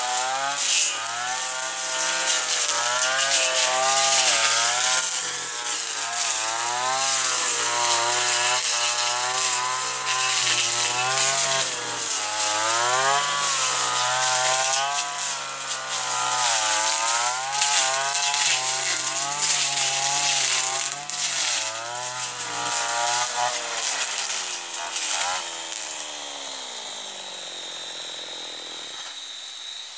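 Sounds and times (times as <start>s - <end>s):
brushcutter engine cutting grass: 0.0s - 29.9s.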